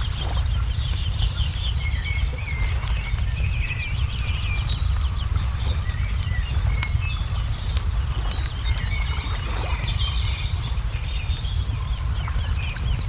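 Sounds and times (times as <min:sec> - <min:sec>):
low rumble: 0:00.0 - 0:13.0
small birds chirping: 0:00.0 - 0:13.0
wood fire crackling: 0:00.0 - 0:13.0.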